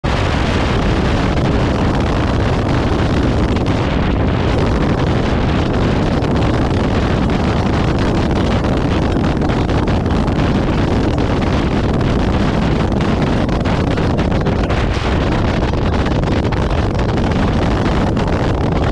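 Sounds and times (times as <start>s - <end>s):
motorcycle engine: 0.0s - 18.9s
road noise: 0.0s - 18.9s
wind rush on microphone: 0.0s - 18.9s.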